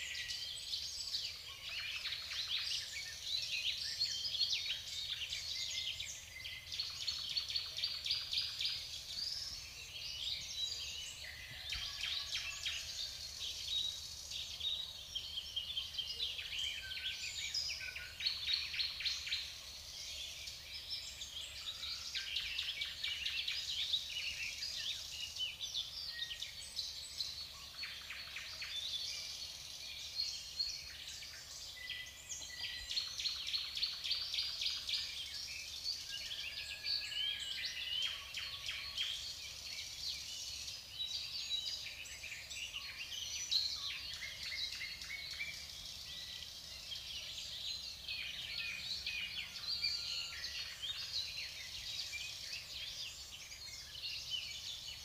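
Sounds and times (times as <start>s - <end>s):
garden birds chirping: 0.0s - 55.0s.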